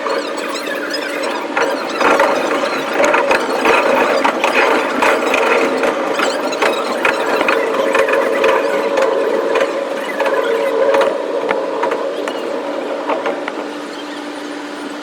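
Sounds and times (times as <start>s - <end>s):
clicks and knocks from track: 0.0s - 15.0s
train wheels squealing on rails: 0.0s - 15.0s.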